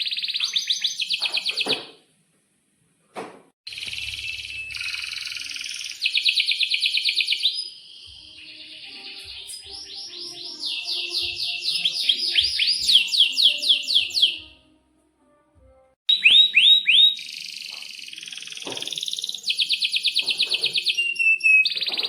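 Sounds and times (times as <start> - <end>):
canary singing: 0.0 - 1.8, 3.7 - 14.7, 16.1 - 22.0.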